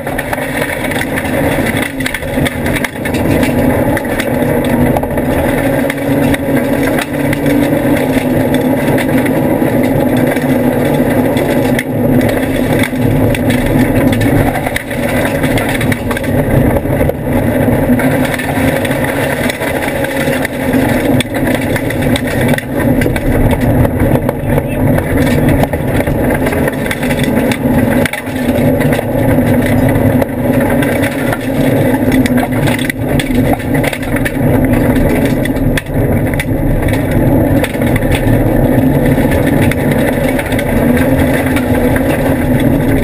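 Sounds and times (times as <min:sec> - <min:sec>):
car engine running hard: 0:00.0 - 0:43.0.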